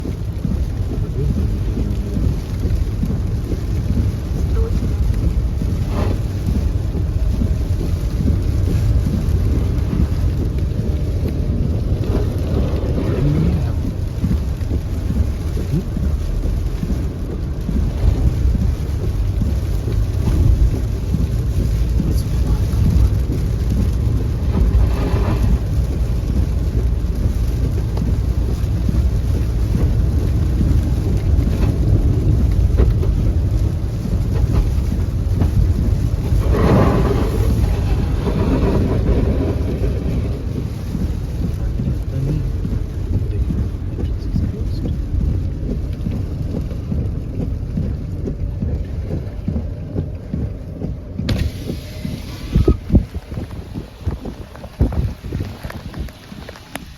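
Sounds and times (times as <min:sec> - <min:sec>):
heavy rain falling: 0:00.0 - 0:56.9
low rumble: 0:00.0 - 0:56.9.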